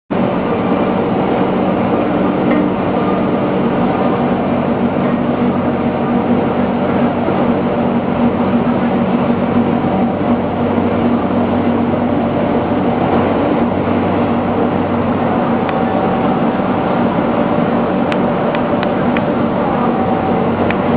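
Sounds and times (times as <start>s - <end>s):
industrial furnace drone: 0.1s - 20.9s
low humming tones: 0.1s - 20.9s.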